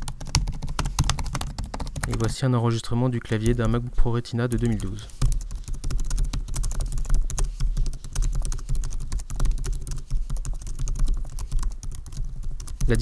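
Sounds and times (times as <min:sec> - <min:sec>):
fast typing on keyboard: 0:00.0 - 0:02.4, 0:03.2 - 0:13.0.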